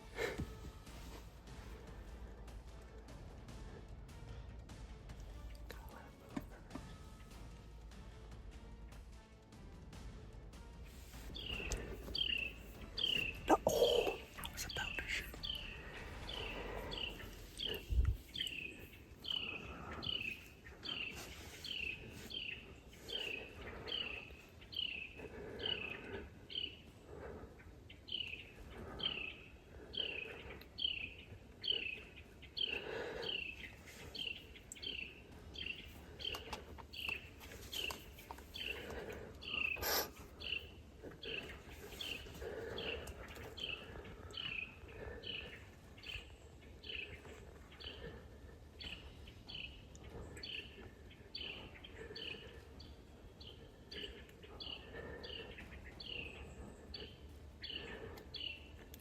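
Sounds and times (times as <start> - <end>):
bird chirping: 11.3 - 59.0.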